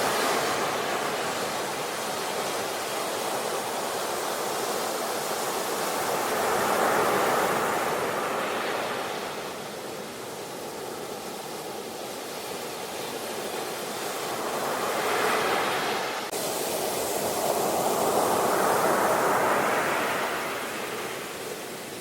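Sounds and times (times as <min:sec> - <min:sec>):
ocean waves breaking on shore: 0:00.0 - 0:22.0.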